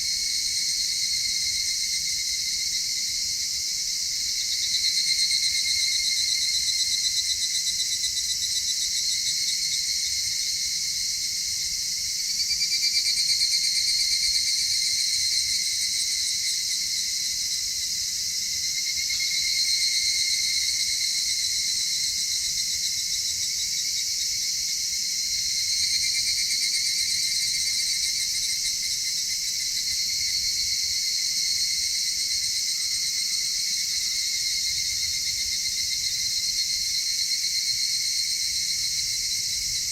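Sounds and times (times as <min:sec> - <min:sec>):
crickets and insects trilling: 0:00.0 - 0:39.9.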